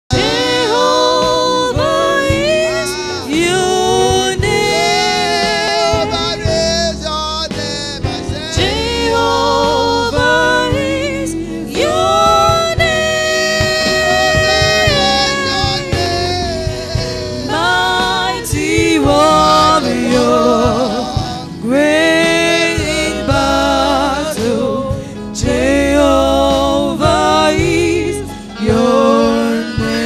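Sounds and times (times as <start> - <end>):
instrumental accompaniment: 0.1 - 30.0
person singing with vibrato: 0.1 - 30.0.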